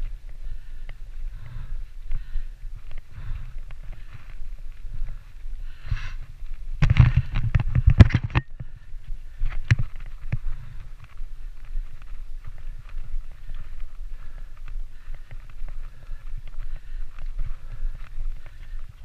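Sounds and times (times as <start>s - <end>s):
bike rattling over rough ground: 0.0s - 19.0s
bike tyre noise: 0.0s - 19.0s
wind: 0.0s - 19.0s.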